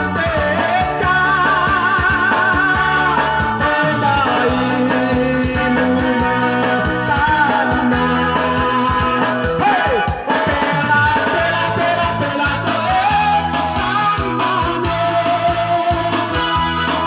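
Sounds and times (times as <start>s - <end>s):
electronic keyboard with beat: 0.0s - 17.0s
man singing into a microphone: 0.0s - 17.0s.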